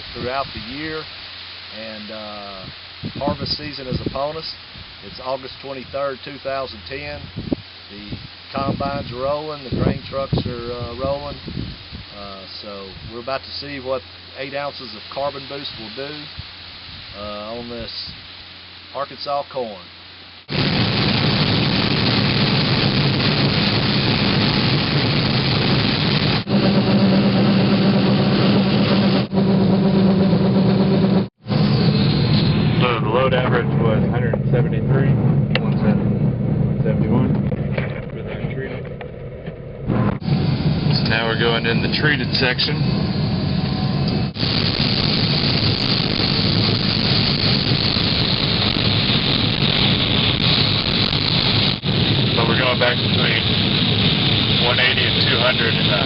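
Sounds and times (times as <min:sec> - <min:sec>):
combine harvester drone: 0:00.0 - 0:56.0.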